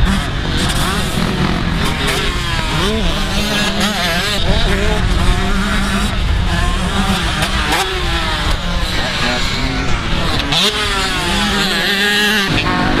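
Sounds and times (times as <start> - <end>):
dirt bike engines revving: 0.0 - 13.0
low engine drone: 0.0 - 13.0.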